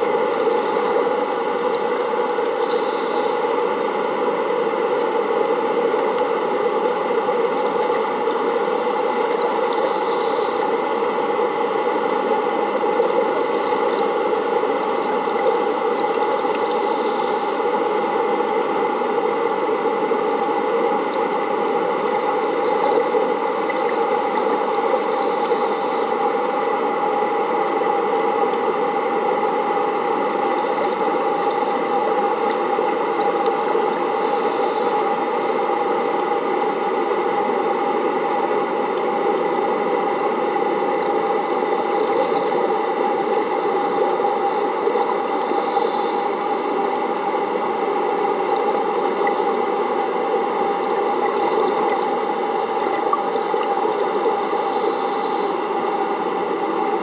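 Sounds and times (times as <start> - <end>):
underwater pump drone: 0.0 - 57.0.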